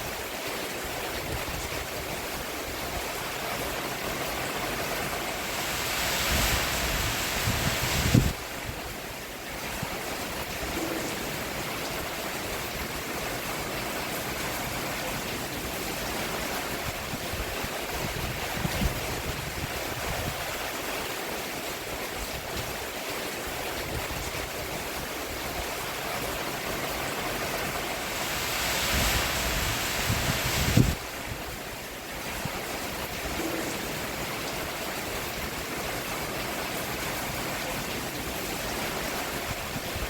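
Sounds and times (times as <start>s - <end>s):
rain falling on a roof: 0.0s - 40.0s.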